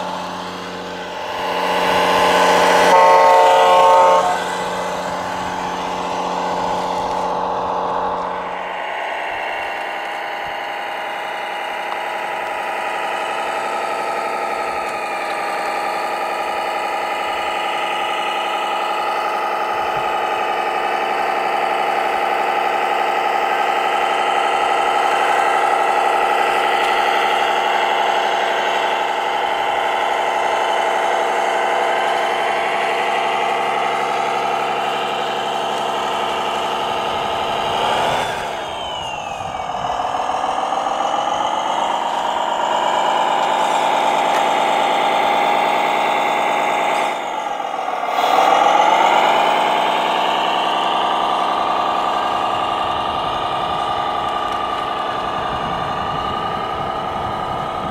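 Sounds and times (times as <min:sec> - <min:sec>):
simulated diesel truck engine: 0:00.0 - 0:57.9.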